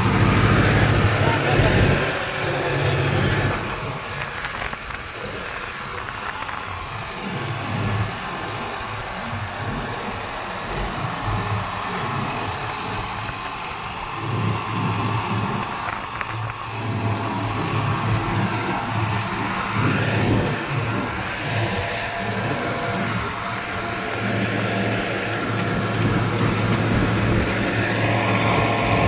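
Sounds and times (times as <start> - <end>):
machine rushing noise: 0.0 - 29.0
tractor diesel engine running: 0.0 - 29.0.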